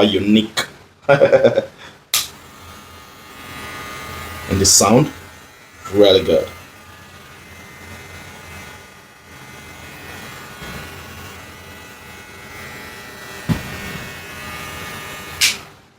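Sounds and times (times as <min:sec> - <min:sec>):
electric hair clipper buzzing: 0:02.2 - 0:15.8.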